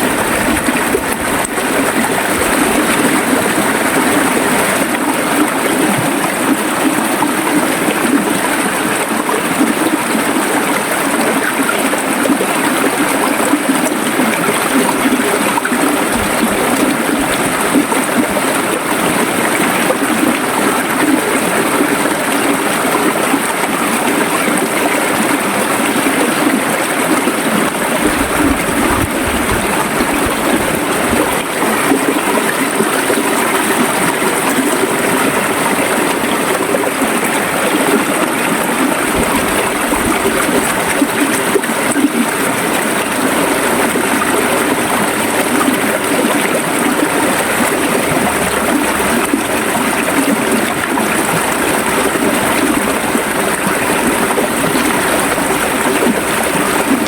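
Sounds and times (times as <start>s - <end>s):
river water flowing over stones: 0.0s - 57.0s.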